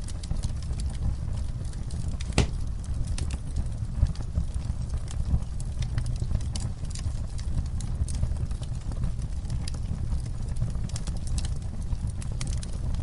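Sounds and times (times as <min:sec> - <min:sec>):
fire pops: 0:00.0 - 0:13.0
low rumble of flames: 0:00.0 - 0:13.0
wood fire crackling: 0:00.0 - 0:13.0.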